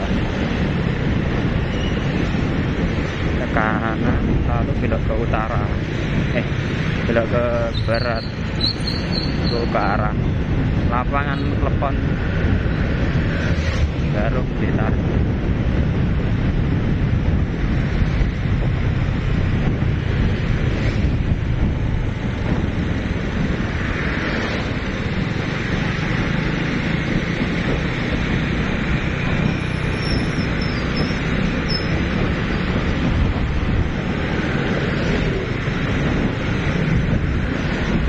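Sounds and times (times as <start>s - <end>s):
road noise: 0.0s - 38.0s
wind on microphone: 0.0s - 38.0s
motorbike engines humming: 5.6s - 38.0s.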